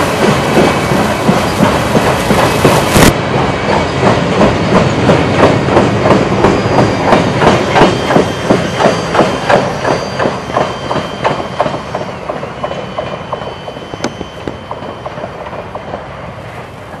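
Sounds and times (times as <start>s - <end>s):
train wheels clacking over rail joints: 0.0s - 17.0s.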